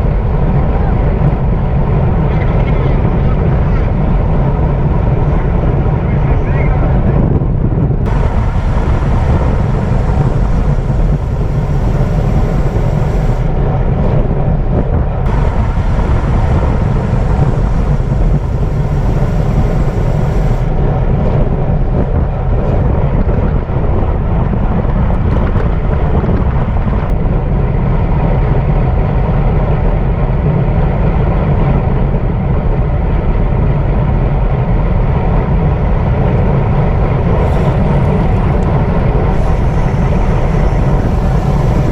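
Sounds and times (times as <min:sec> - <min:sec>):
road and tyre noise: 0:00.0 - 0:41.9
wind roar on microphone: 0:00.0 - 0:41.9.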